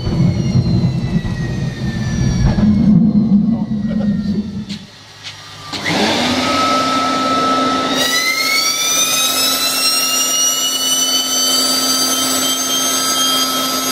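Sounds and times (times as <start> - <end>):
jet engine roaring: 0.0 - 11.8
turbo whine rising: 0.0 - 13.7.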